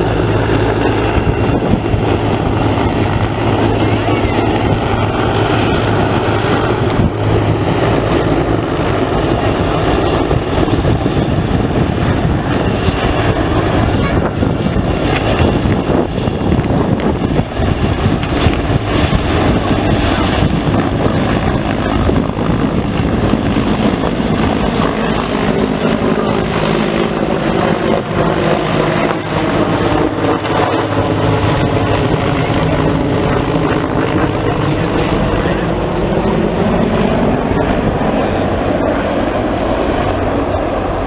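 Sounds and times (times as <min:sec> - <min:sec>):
helicopter engines droning: 0:00.0 - 0:41.0
helicopter rotor beat: 0:00.0 - 0:41.0.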